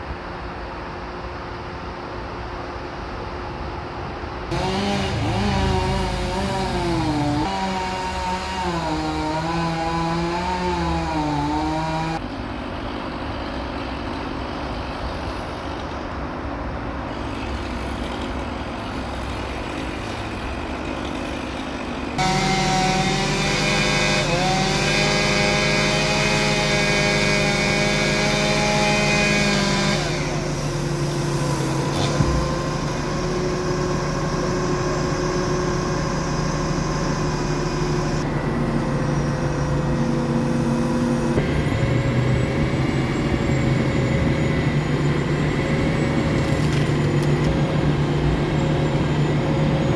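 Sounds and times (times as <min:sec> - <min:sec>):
engine-driven machinery running: 0:03.8 - 0:07.8, 0:09.4 - 0:49.9.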